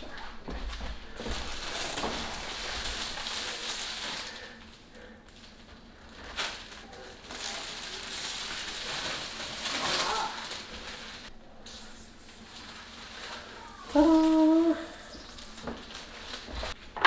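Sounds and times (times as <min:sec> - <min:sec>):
plastic film peeling crinkling: 0:01.2 - 0:16.8.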